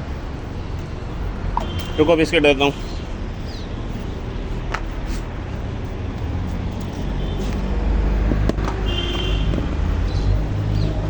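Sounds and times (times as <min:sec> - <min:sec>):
road traffic rumble: 0:00.0 - 0:11.0
vehicle passing close by: 0:00.1 - 0:11.0.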